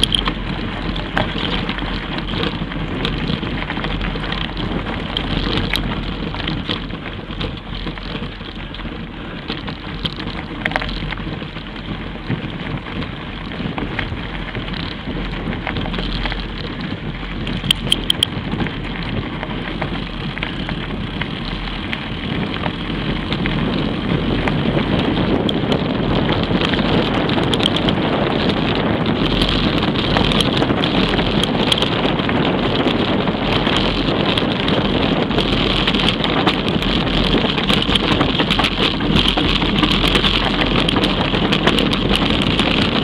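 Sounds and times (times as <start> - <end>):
bike rattling: 0.0 - 43.0
bike tyres crunching on gravel: 0.0 - 43.0
wind on microphone: 0.0 - 43.0.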